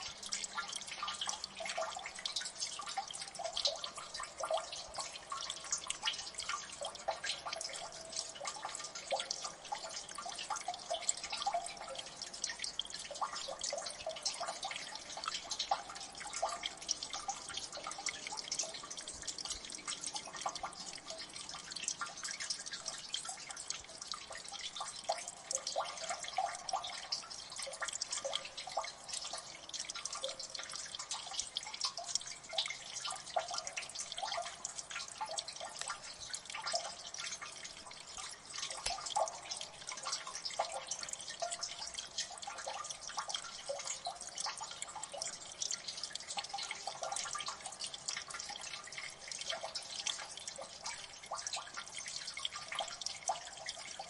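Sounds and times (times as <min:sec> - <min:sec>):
water dripping: 0:00.0 - 0:54.0.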